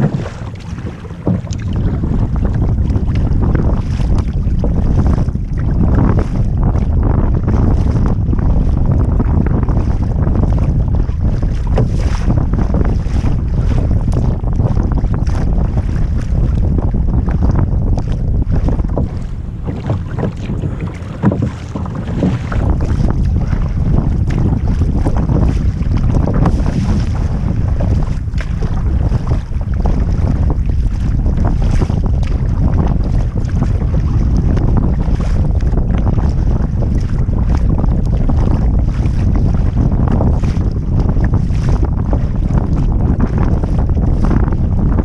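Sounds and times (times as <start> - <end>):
waves splashing against kayak: 0.0 - 45.0
wind buffeting microphone: 0.0 - 45.0.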